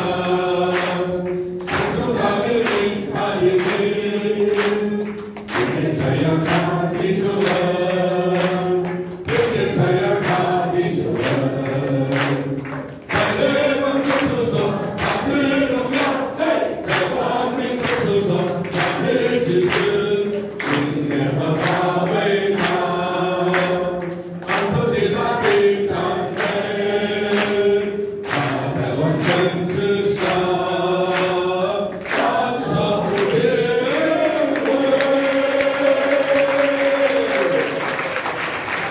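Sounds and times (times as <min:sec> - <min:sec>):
men singing through microphones: 0:00.0 - 0:37.8.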